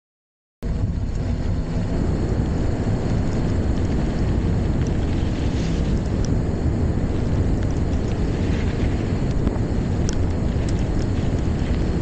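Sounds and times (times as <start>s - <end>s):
wind rumbling on microphone: 0.6s - 12.0s.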